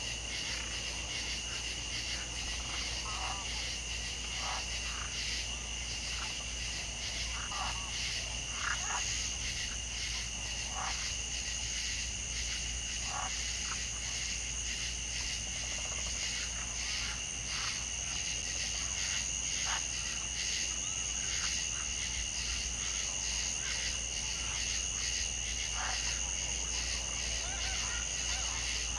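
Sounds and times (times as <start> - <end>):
frogs croaking: 0.0 - 28.9
insects trilling: 0.0 - 28.9.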